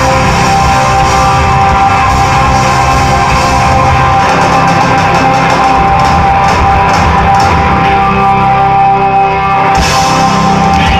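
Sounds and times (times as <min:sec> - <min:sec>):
live rock band playing: 0:00.0 - 0:10.9.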